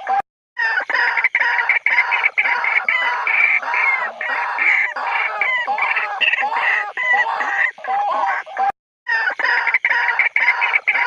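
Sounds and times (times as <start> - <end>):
waterhen calls: 0.0 - 11.0.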